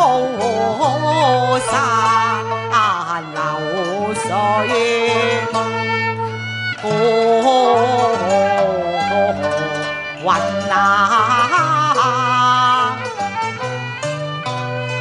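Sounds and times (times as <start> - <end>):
bowed fiddle melody: 0.0 - 15.0.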